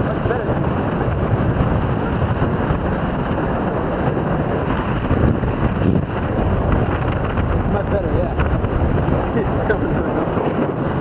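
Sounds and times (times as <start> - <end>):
strong wind on microphone: 0.0 - 11.0.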